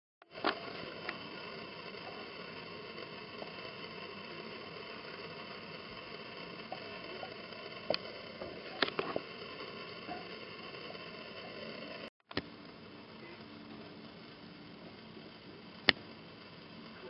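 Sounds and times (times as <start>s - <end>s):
background hiss: 0.2s - 17.0s.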